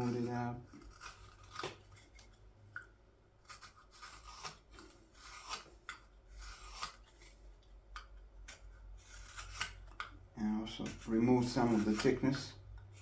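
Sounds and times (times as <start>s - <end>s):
knife scraping wood: 0.0s - 13.0s.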